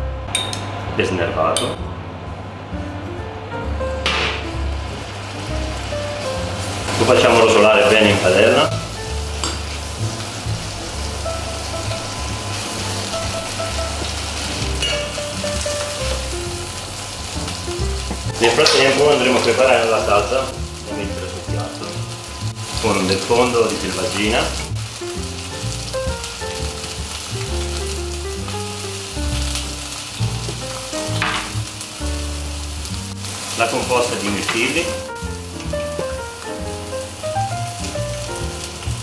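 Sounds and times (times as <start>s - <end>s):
background music with bass line: 1.7s - 39.0s
meat sizzling in a frying pan: 4.3s - 39.0s.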